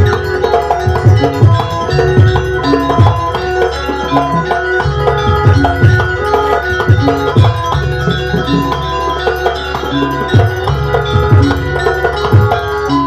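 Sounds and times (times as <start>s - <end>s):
ringing metal percussion: 0.0s - 13.0s.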